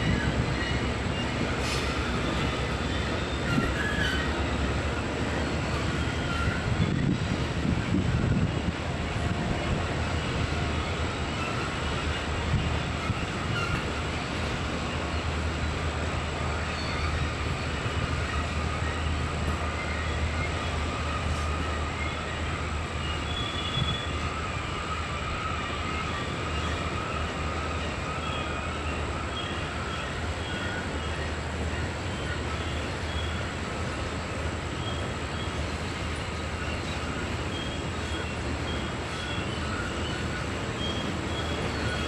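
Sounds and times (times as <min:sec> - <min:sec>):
wheel flange squeal: 0:00.0 - 0:07.4, 0:10.1 - 0:15.8, 0:16.4 - 0:42.0
train wheels rumbling on rails: 0:00.0 - 0:42.0.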